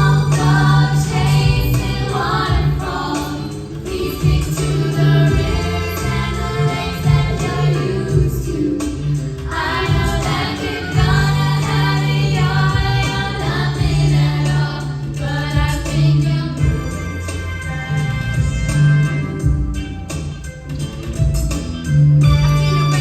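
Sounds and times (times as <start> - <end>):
several voices singing: 0.0 - 18.5
heavy bass line: 0.0 - 23.0.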